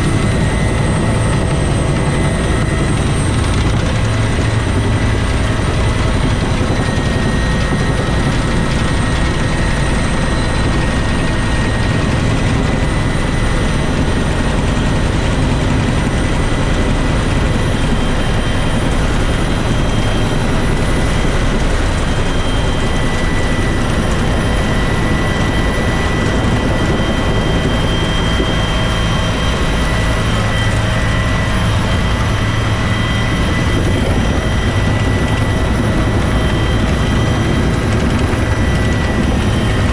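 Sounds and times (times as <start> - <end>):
helicopter rotor and engine noise: 0.0 - 39.9
high turbine whine: 0.0 - 39.9.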